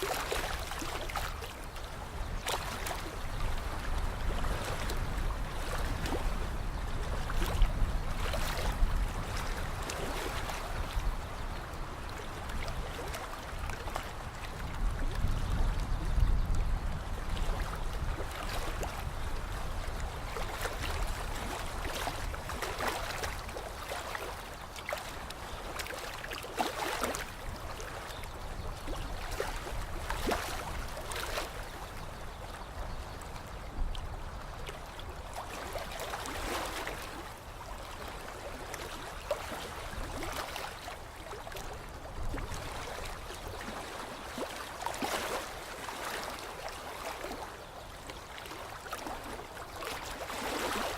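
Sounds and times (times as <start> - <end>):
water lapping against shore: 0.0 - 50.9.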